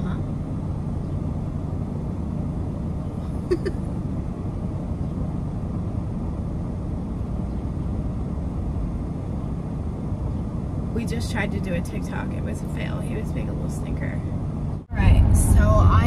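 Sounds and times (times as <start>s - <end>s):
van engine rumble: 0.0s - 16.0s.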